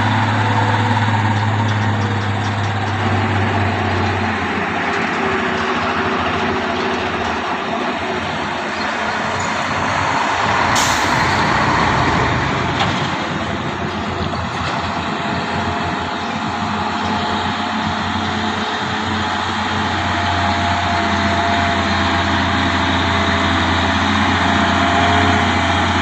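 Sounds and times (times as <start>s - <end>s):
road noise: 0.0s - 26.0s
truck engine running: 0.0s - 26.0s.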